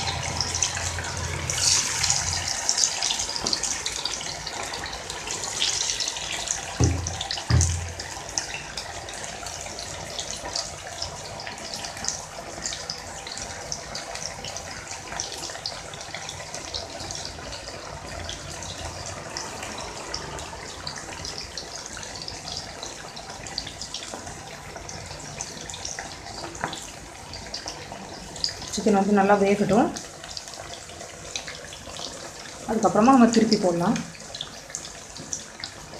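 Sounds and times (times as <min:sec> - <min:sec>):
chicken deep-frying in oil: 0:00.0 - 0:35.9.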